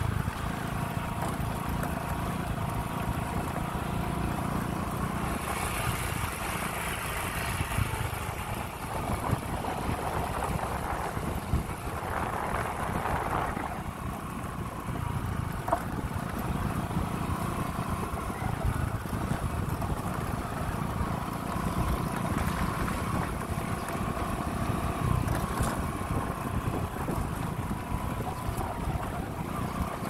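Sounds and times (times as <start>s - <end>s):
engine low rumble: 0.0s - 30.0s.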